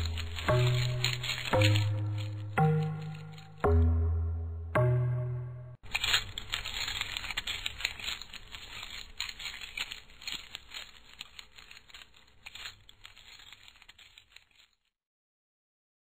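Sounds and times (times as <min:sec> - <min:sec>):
dense irregular crackling: 0:00.0 - 0:03.7, 0:05.8 - 0:14.9.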